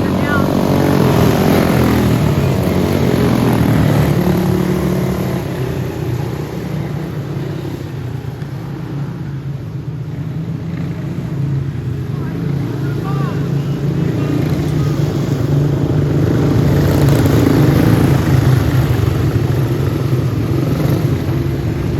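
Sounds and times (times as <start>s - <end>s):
racing kart engines: 0.0s - 21.9s.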